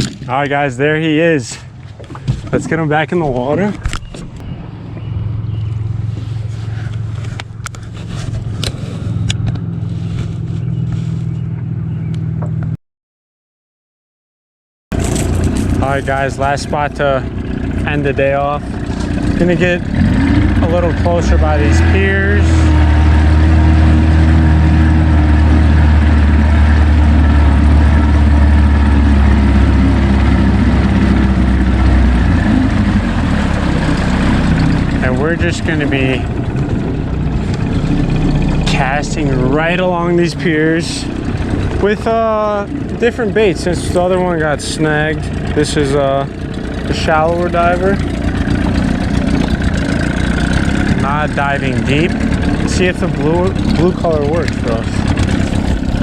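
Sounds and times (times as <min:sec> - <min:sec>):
water: 0:00.0 - 0:11.1, 0:14.9 - 0:56.0
boat motor humming: 0:00.0 - 0:12.8, 0:14.9 - 0:56.0
wind: 0:00.0 - 0:12.8, 0:14.9 - 0:56.0.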